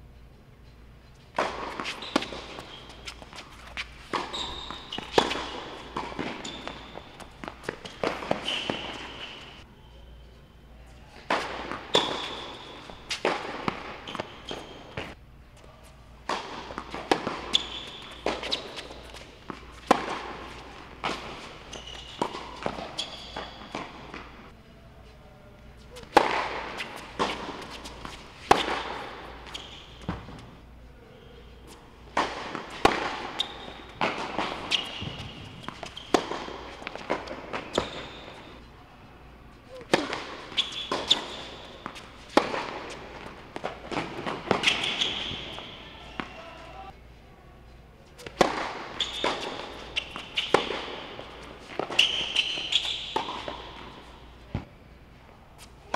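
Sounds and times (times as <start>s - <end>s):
shoes squeaking on court: 0.2s - 24.5s, 25.8s - 47.0s, 48.0s - 55.9s
tennis ball struck by rackets: 1.3s - 9.6s, 11.2s - 15.2s, 16.2s - 24.4s, 26.0s - 30.5s, 31.7s - 38.5s, 39.7s - 46.3s, 48.2s - 54.7s
ball bouncing on court: 1.4s - 9.6s, 11.3s - 15.2s, 16.2s - 24.5s, 26.0s - 30.5s, 32.1s - 38.5s, 39.7s - 46.8s, 48.2s - 54.8s.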